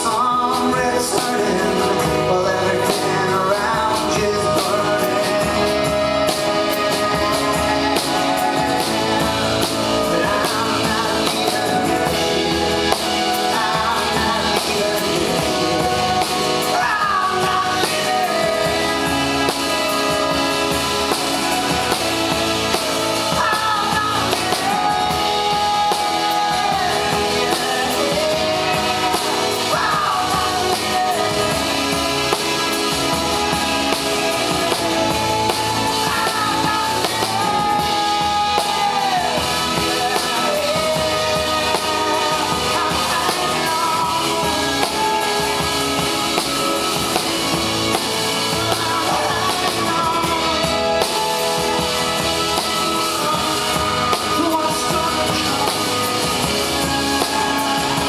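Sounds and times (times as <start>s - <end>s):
drum kit: 0.0s - 58.0s
man singing: 0.0s - 58.0s.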